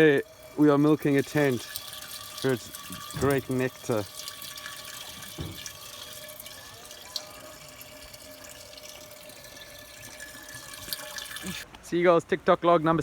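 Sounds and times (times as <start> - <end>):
water trickling and dripping: 0.0 - 11.7.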